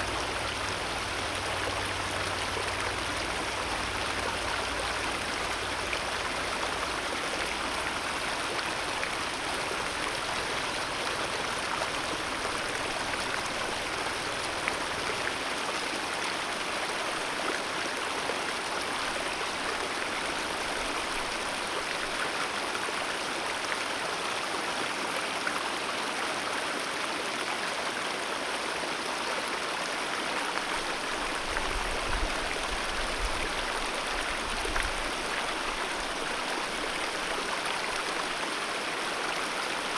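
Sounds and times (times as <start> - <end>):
river water rushing: 0.0 - 24.7, 27.8 - 39.9.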